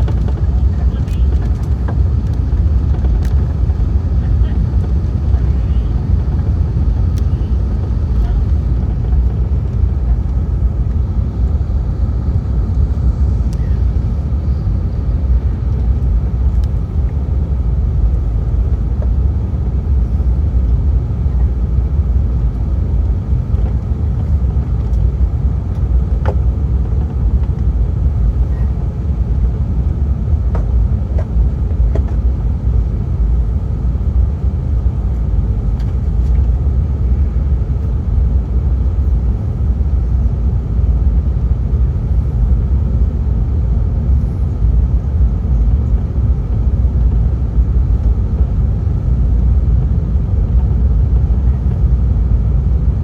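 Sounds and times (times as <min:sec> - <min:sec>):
aircraft cabin engine rumble: 0:00.0 - 0:53.0.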